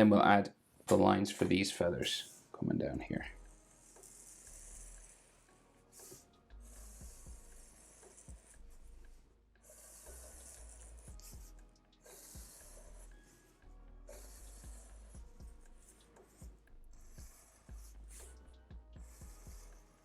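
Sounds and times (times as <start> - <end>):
pencil scratching on paper: 0.9 - 20.0.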